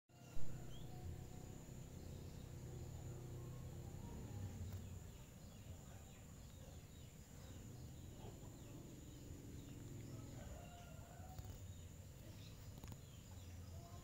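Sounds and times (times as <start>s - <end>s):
distant birds chirping: 0.1s - 14.0s.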